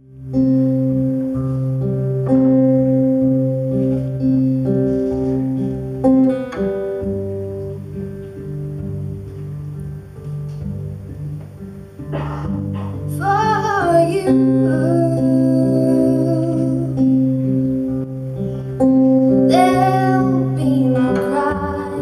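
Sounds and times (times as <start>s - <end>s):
acoustic guitar strummed chords: 0.0s - 22.0s.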